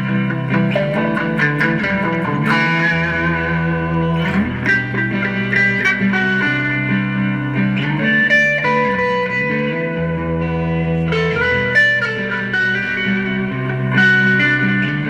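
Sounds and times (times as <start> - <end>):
guitar background music: 0.0 - 15.0.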